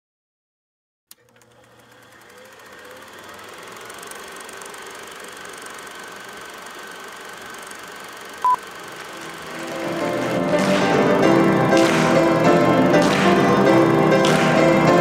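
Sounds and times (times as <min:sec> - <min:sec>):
film projector clattering: 0:01.1 - 0:15.0.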